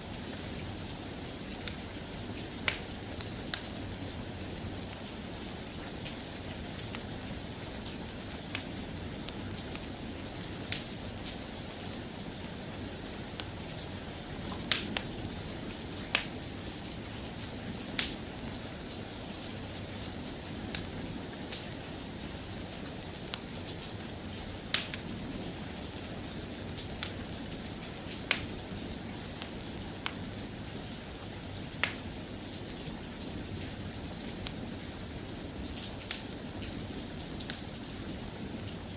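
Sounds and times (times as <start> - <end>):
steady rain: 0.0 - 38.9
wood fire crackling: 0.1 - 38.9.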